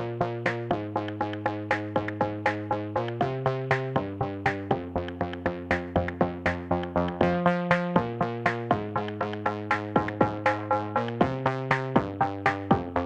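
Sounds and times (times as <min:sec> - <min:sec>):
electronic synthesizer music: 0:00.0 - 0:13.0.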